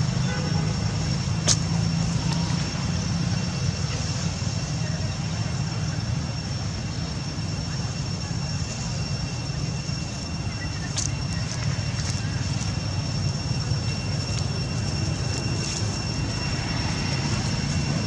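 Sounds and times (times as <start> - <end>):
vehicle engine humming: 0.0 - 18.0
thin high whine: 0.3 - 18.0.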